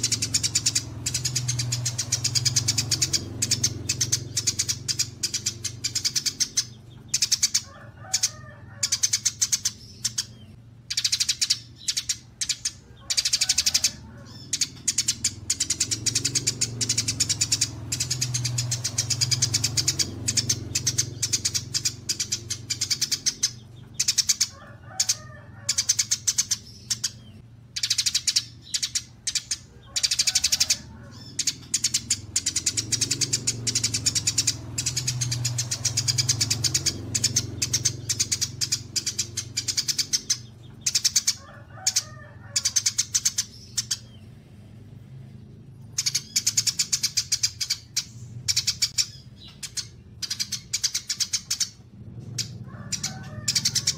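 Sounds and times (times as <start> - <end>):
bird warbling: 0.0 - 44.4, 45.8 - 53.9
songbirds chirping: 0.0 - 53.9.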